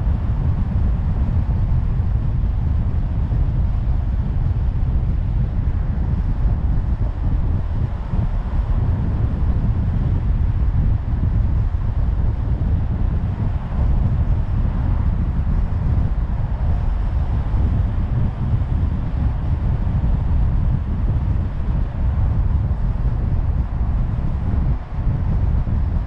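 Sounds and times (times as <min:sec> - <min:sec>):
road and wind noise: 0:00.0 - 0:26.0
wind buffeting microphone: 0:00.0 - 0:26.0.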